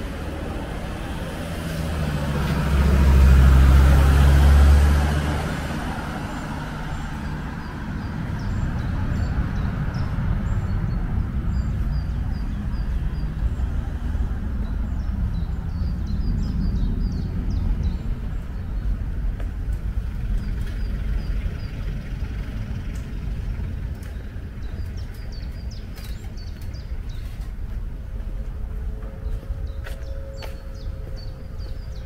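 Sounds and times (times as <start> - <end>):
car passing by: 0.0 - 26.2
low steady rumble: 5.8 - 32.0.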